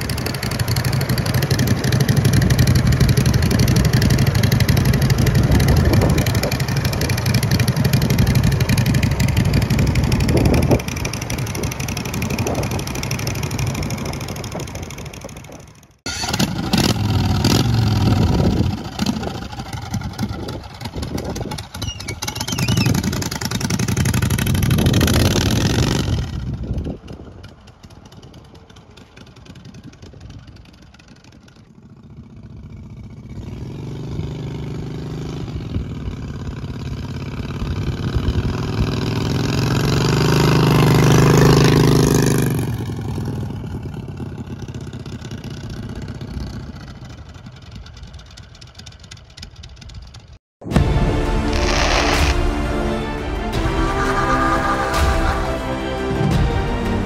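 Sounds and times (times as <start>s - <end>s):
motorized bicycle engine passing: 0.0s - 50.4s.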